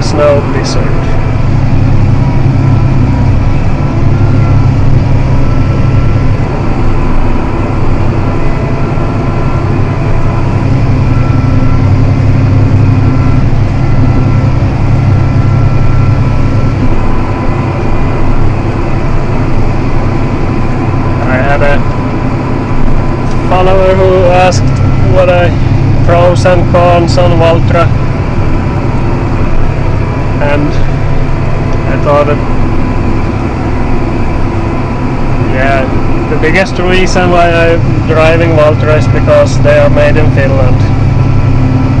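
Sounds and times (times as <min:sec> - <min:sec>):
faint steady whines: 0:00.0 - 0:42.0
tractor engine under load: 0:00.0 - 0:42.0.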